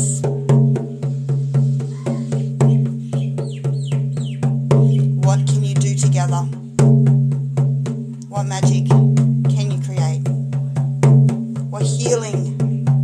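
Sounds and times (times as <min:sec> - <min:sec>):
frame drum beaten fast: 0:00.0 - 0:13.0.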